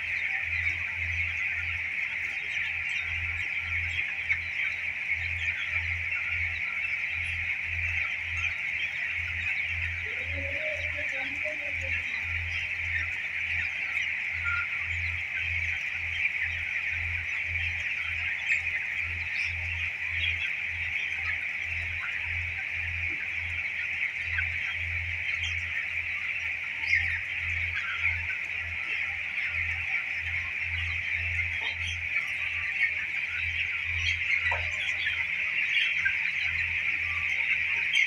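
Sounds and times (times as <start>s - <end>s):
chicks peeping: 0.0s - 38.0s.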